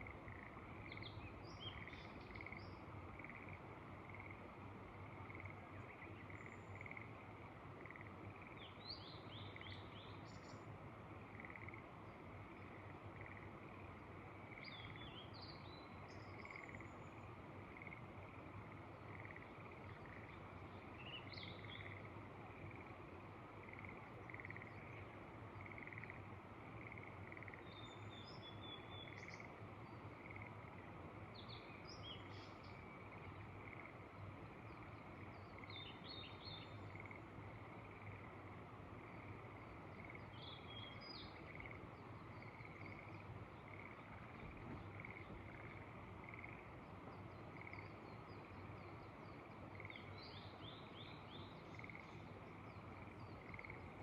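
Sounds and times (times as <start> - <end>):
frogs calling: 0.0 - 7.2, 7.8 - 8.7, 11.3 - 12.0, 12.6 - 15.4, 16.1 - 31.0, 32.0 - 54.0
soft background hiss: 0.0 - 54.0.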